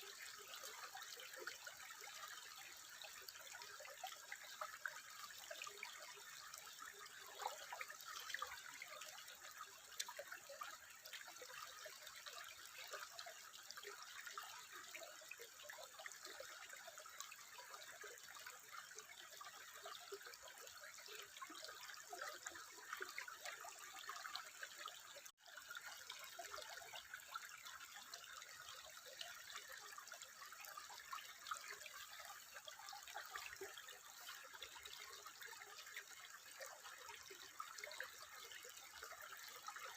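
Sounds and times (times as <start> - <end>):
water trickling with drips: 0.0 - 39.9.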